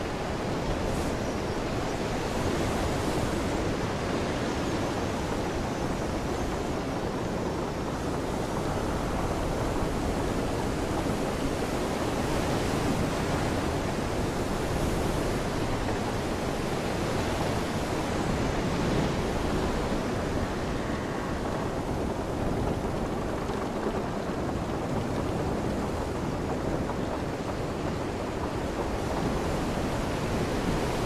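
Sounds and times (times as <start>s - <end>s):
rain: 0.0s - 31.0s
wind buffeting microphone: 0.0s - 31.0s.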